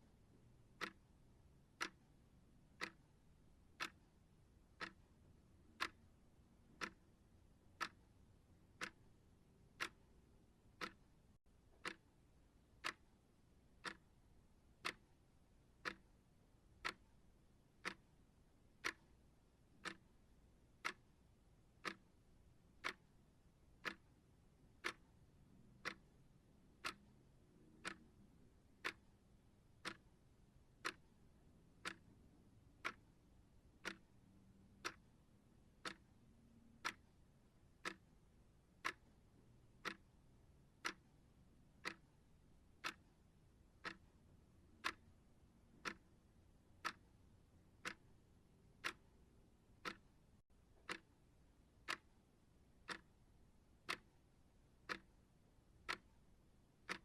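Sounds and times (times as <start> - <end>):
faint background hiss: 0.0 - 57.0
timer ticking: 0.6 - 13.2, 13.8 - 57.0.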